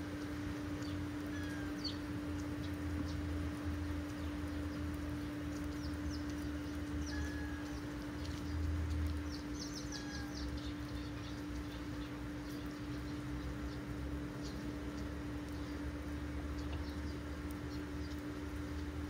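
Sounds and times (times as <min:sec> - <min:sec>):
steady low hum: 0:00.0 - 0:19.0
small birds chirping: 0:00.8 - 0:19.0.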